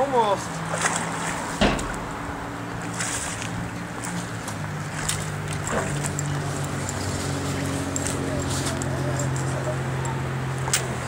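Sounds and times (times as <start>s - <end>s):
fish splashing in water: 0.6s - 11.0s.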